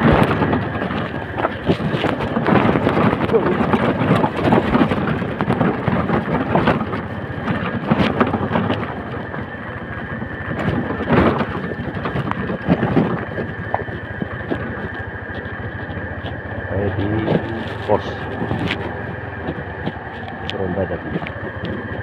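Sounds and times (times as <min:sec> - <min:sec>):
motorcycle knocks and rattles: 0:00.0 - 0:22.0
wind and rain rushing: 0:00.0 - 0:22.0.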